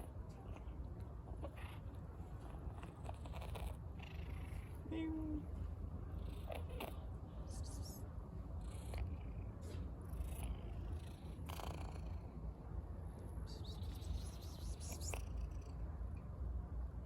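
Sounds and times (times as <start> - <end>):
cat purring: 0.0 - 7.8, 8.4 - 12.6, 13.2 - 15.9.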